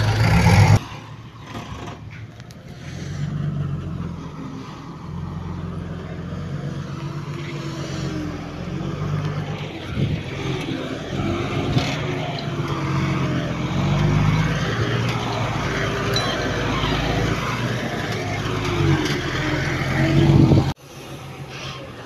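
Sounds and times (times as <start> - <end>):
heavy diesel machinery engine: 0.0 - 22.0.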